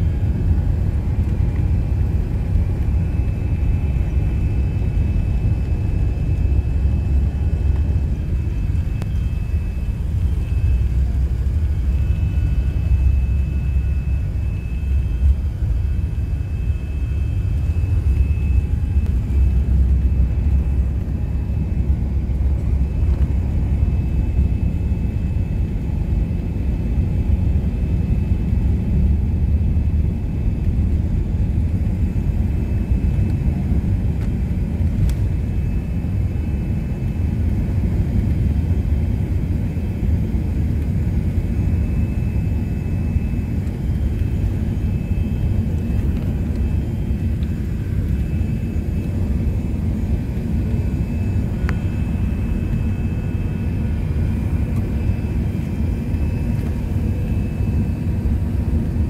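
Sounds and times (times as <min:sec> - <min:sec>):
high whine: 0:00.0 - 0:59.0
jet engines rumbling: 0:00.0 - 0:59.0.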